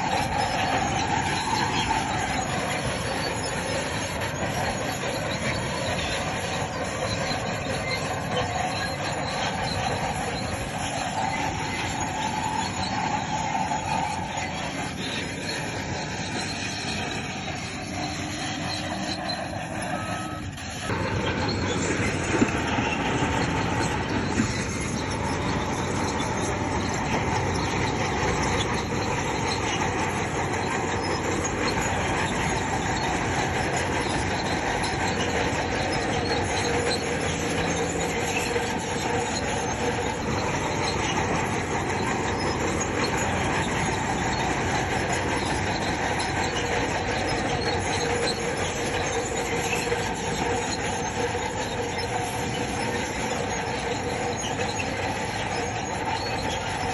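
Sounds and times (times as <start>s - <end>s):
diesel engine running: 0.0s - 56.9s
steel tracks squealing and clattering: 0.0s - 56.9s.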